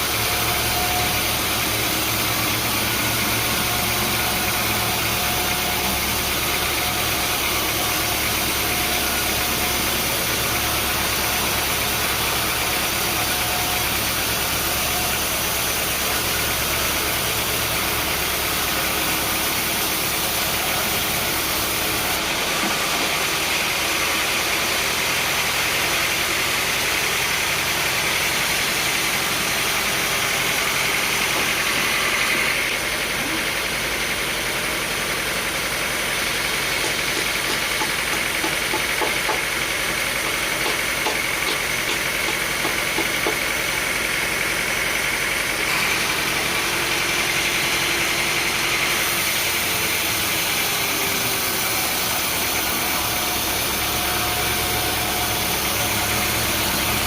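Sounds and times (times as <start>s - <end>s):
engine and machinery running: 0.0s - 57.0s.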